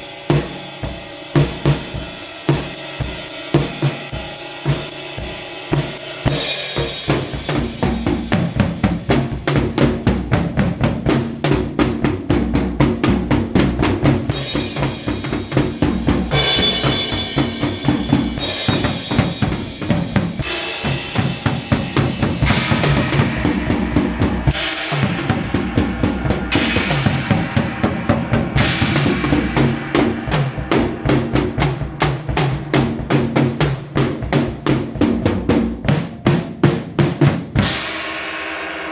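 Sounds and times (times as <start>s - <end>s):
cymbal crashes: 0.0s - 10.3s, 13.6s - 34.6s, 37.6s - 38.9s
drum kit fast beat: 0.0s - 38.9s.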